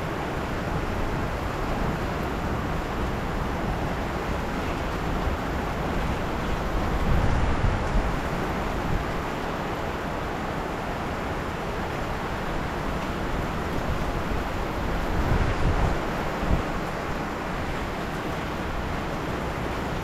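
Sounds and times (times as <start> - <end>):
heavy rain pouring: 0.0 - 20.0
wind rumbling on microphone: 0.4 - 20.0.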